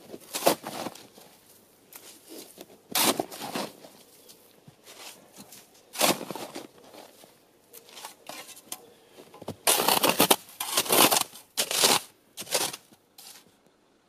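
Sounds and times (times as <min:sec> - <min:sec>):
snow shovel scraping snow: 0:00.0 - 0:01.3, 0:02.0 - 0:04.1, 0:04.8 - 0:07.3, 0:07.9 - 0:13.5.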